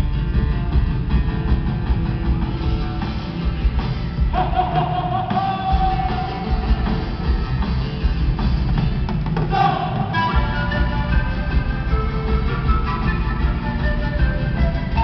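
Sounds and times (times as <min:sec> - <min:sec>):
amplified live folk band: 0:00.0 - 0:15.0.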